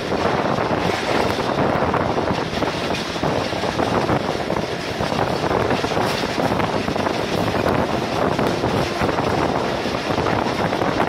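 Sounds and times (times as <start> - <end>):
train coach rumbling: 0.0 - 11.0
wind on microphone: 0.0 - 11.0.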